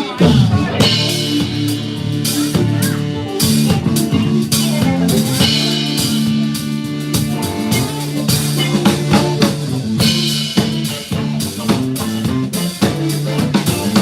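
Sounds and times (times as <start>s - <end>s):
drum kit with cymbal crashes: 0.0s - 14.0s
guitar sustained notes: 0.0s - 14.0s.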